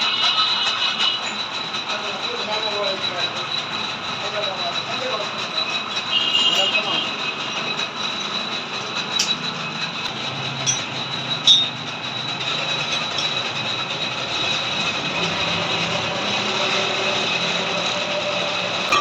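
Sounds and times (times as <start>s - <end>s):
metal lathe whining: 0.1s - 19.0s.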